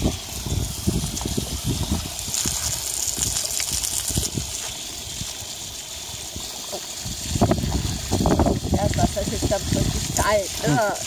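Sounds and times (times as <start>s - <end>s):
hose spray hissing: 0.0s - 11.0s
water splashing: 0.0s - 11.0s.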